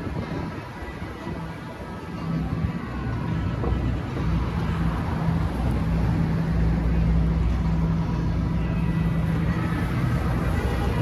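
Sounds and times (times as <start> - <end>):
city traffic noise: 0.0 - 11.0
low engine hum: 0.0 - 11.0.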